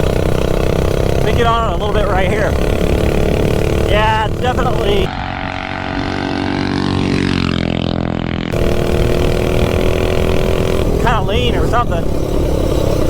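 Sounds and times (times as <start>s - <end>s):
minibike engine revving: 0.0s - 13.0s.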